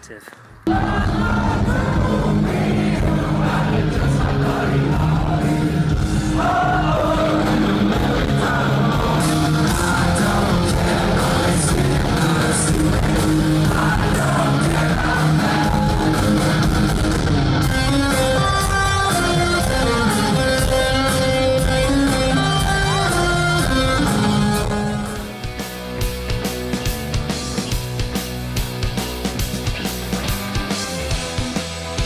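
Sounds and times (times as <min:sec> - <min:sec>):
guitar: 0:00.3 - 0:32.0
rock song with singing: 0:00.3 - 0:32.0.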